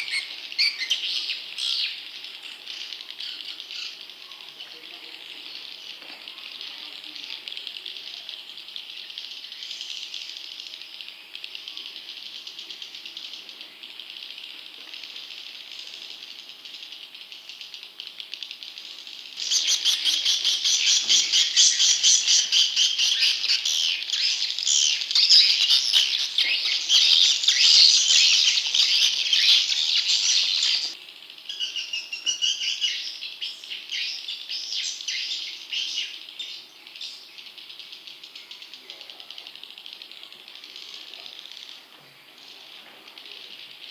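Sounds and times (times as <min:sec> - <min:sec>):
chorus of chick chirps: 0:00.0 - 0:15.8, 0:16.6 - 0:43.9.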